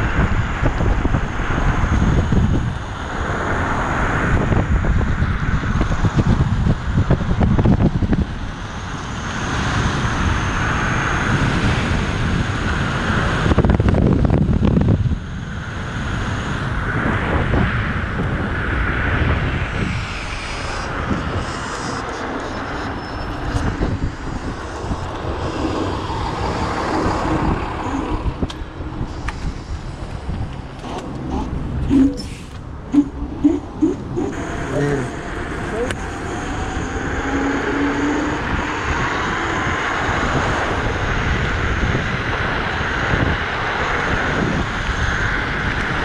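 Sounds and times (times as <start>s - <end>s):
tyre and road rumble: 0.0s - 46.0s
wind rushing over microphone: 0.0s - 46.0s.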